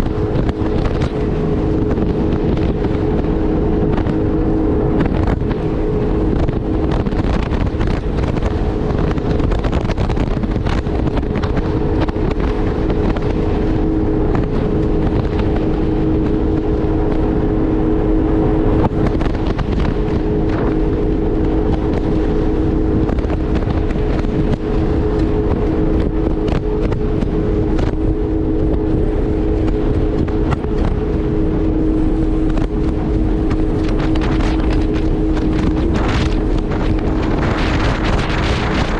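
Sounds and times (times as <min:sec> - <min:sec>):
jet ski engine whine: 0:00.0 - 0:38.9
wind buffeting microphone: 0:00.0 - 0:38.9.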